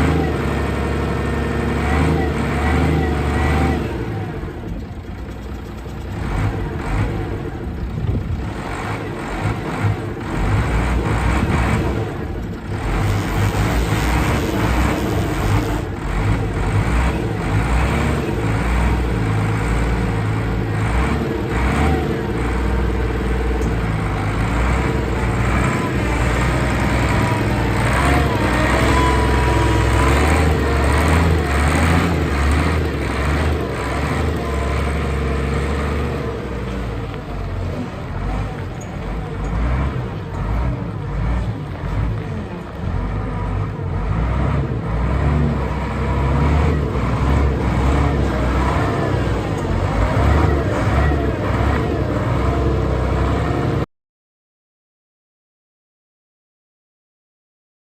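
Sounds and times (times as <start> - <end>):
forklift engine drone: 0.0 - 53.9.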